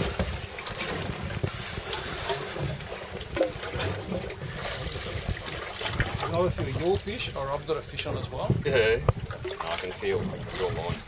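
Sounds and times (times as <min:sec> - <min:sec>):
water sounds at sea: 0:00.0 - 0:11.0
wind buffeting microphone: 0:00.0 - 0:11.0.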